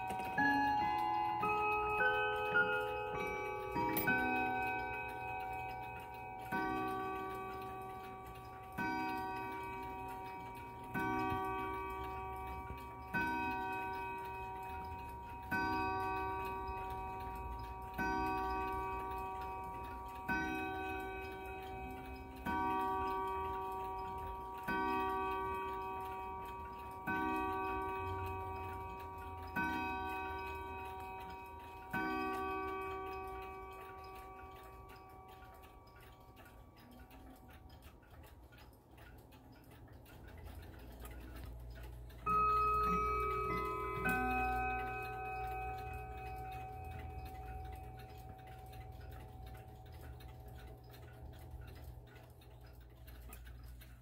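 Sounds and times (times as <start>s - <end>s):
clock striking notes: 0.0s - 54.0s
clock ticking: 0.0s - 54.0s.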